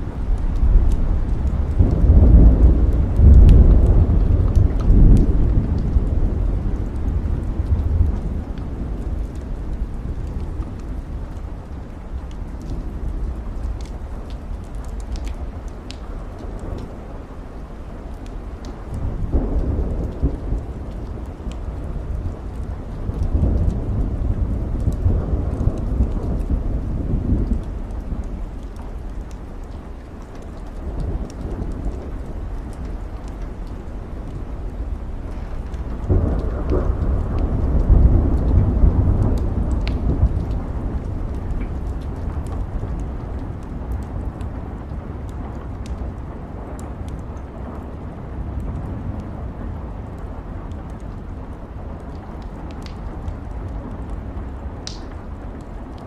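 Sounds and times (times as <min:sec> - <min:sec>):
steady rain: 0:00.0 - 0:56.0
thunder rumbling: 0:00.0 - 0:56.0
wood fire crackling: 0:00.0 - 0:56.0.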